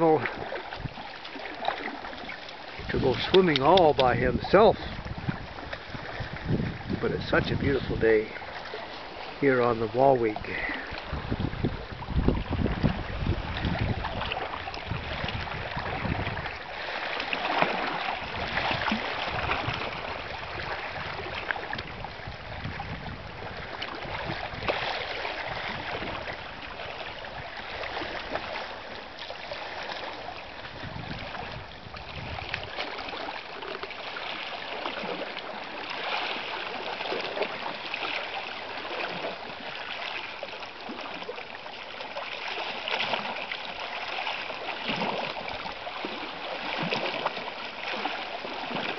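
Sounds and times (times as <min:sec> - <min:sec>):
waves lapping on rocks: 0:00.0 - 0:48.9.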